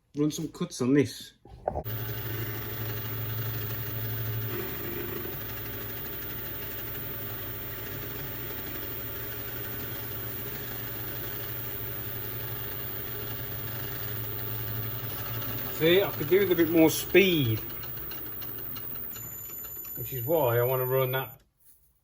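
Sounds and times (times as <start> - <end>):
spindle motor humming: 1.8 - 21.4.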